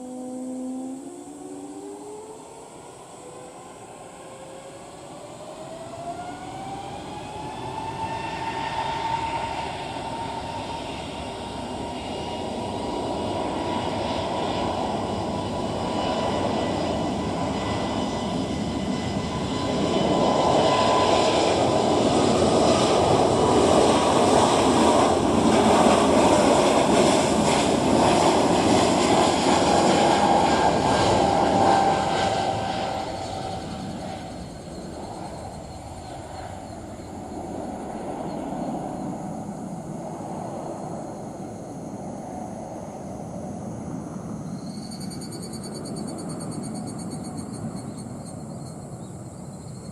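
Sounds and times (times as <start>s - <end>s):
jet engines spooling up: 0.0s - 45.4s.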